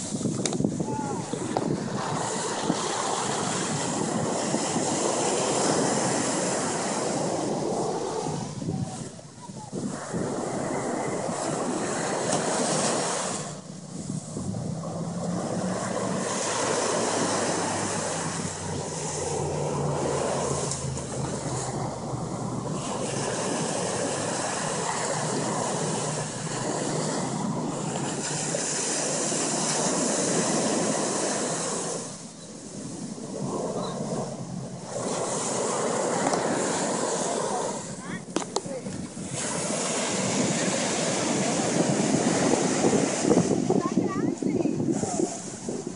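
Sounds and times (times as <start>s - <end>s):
ocean surf breaking: 0.0s - 45.9s
wind on microphone: 0.0s - 45.9s.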